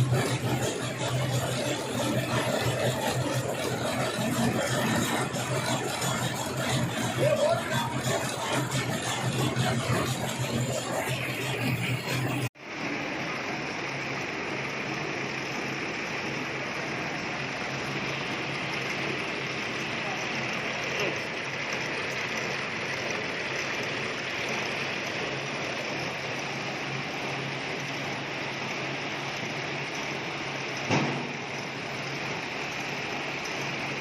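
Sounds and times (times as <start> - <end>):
machinery rushing noise: 0.0 - 34.0.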